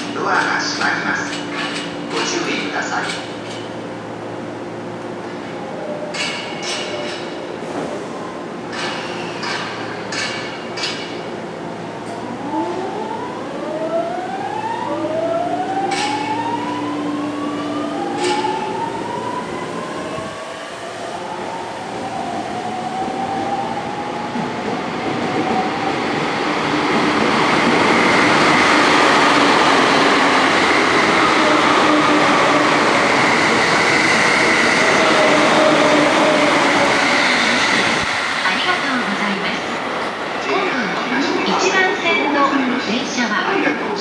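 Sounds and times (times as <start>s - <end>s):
train cars running noise: 0.0s - 44.0s.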